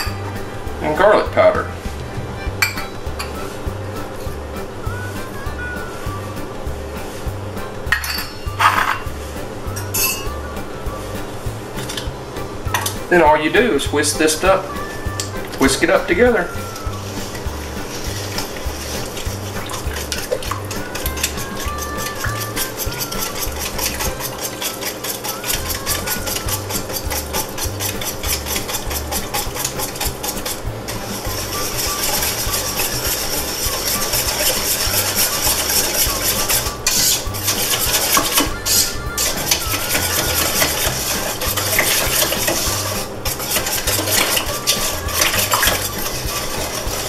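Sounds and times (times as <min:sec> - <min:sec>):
whisk scraping and clinking in pot: 0:00.0 - 0:04.8, 0:05.8 - 0:47.0.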